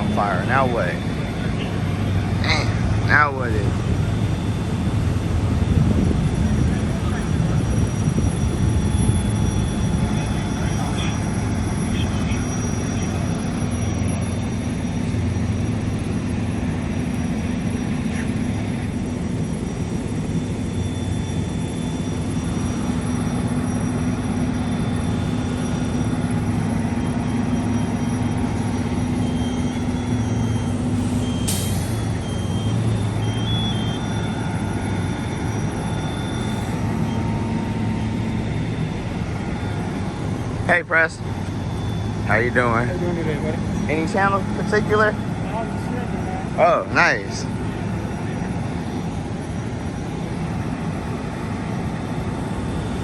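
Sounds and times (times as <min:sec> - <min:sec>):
fire truck engine humming: 0:00.0 - 0:53.0
high electronic beeps: 0:00.0 - 0:53.0.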